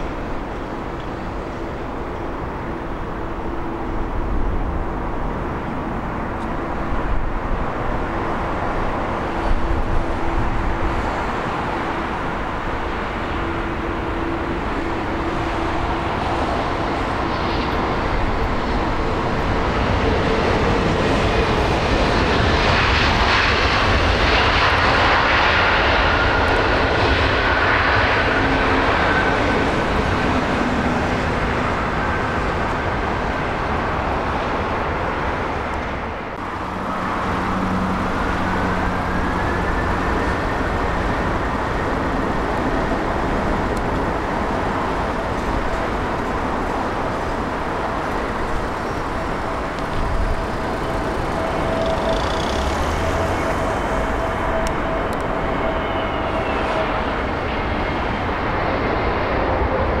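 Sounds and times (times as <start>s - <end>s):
jet engines rushing: 0.0s - 60.0s
jet engine whine rising: 0.3s - 60.0s.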